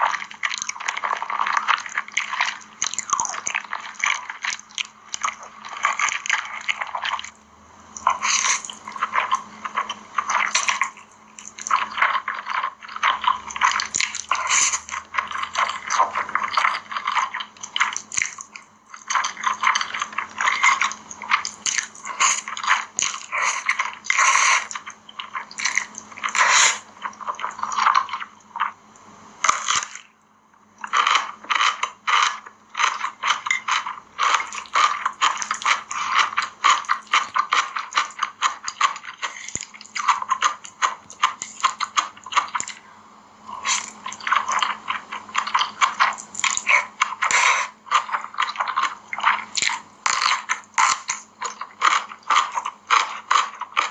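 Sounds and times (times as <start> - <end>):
wet chewing and mouth sounds: 0.0 - 53.9.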